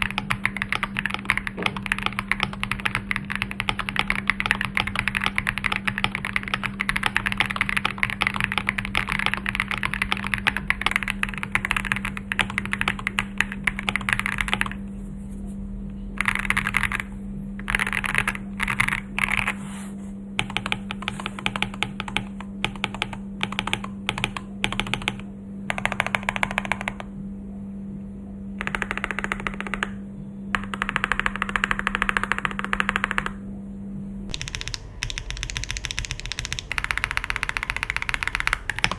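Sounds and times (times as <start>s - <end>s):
mechanical keyboard typing: 0.0s - 14.8s, 16.2s - 19.6s, 20.4s - 27.1s, 28.6s - 33.4s, 34.3s - 38.9s
steady low hum: 0.0s - 38.9s.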